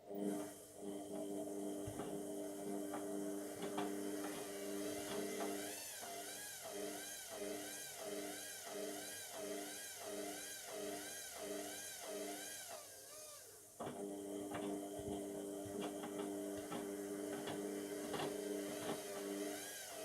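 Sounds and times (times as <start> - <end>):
steady mechanical hum: 0.0 - 9.1, 12.4 - 20.0
washing machine motor whining: 0.0 - 20.0.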